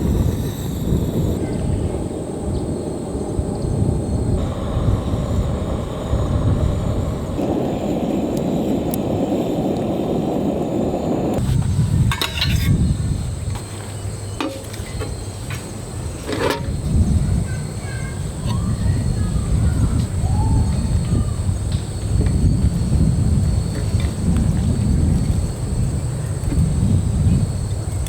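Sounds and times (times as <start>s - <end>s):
wind and surf: 0.0s - 28.0s.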